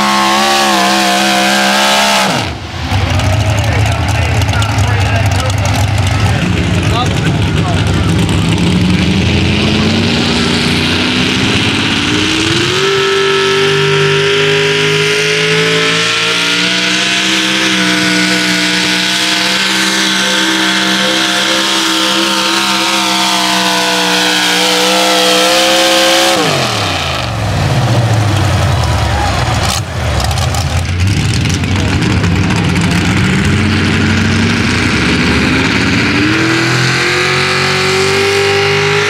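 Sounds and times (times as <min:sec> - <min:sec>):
truck engine revving at full throttle: 0:00.0 - 0:39.0.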